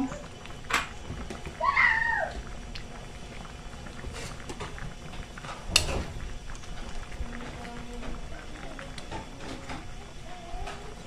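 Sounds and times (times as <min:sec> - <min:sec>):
coconut milk simmering: 0:00.0 - 0:11.0.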